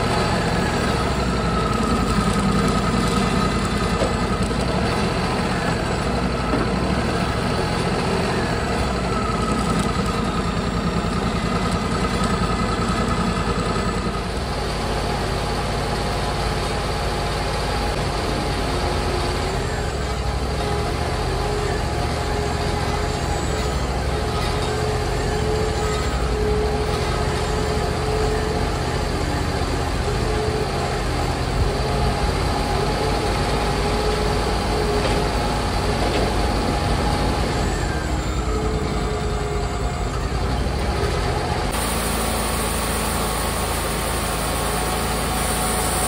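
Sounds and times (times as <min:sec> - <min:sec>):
loader engine running under load: 0:00.0 - 0:46.0.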